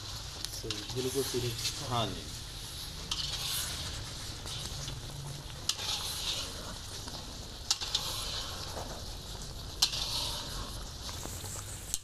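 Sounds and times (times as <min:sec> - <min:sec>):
ghee sizzling: 0:00.0 - 0:12.0
spatula scraping wok: 0:00.0 - 0:12.0.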